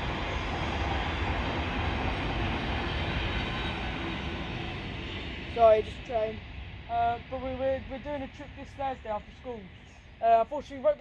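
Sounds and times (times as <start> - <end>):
train passing: 0.0 - 11.0.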